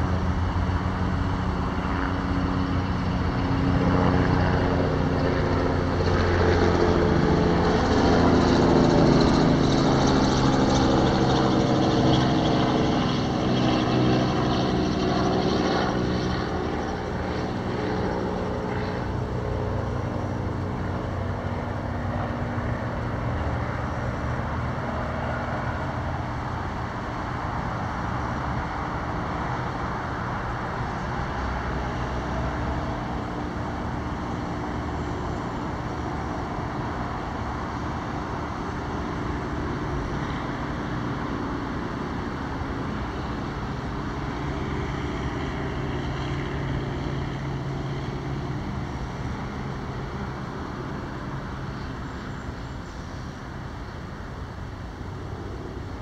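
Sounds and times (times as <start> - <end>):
aircraft engine passing over: 0.0 - 56.0
road traffic hum: 0.0 - 56.0.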